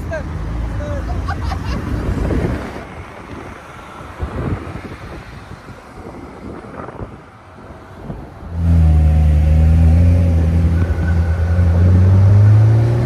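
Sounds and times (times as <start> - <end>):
sports car engine and exhaust: 1.6 - 13.0.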